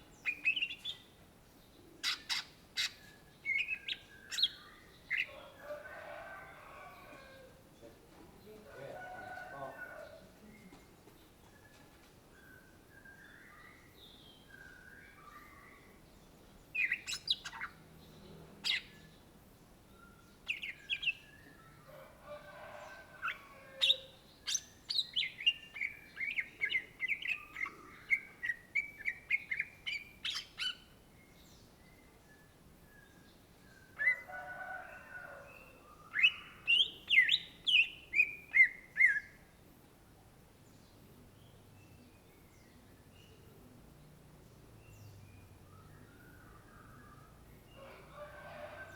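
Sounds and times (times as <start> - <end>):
bird chirping song: 0.0 - 48.9.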